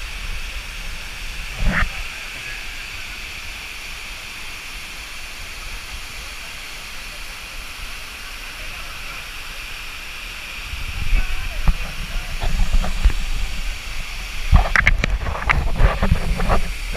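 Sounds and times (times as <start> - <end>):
waterfall roaring: 0.0 - 16.9.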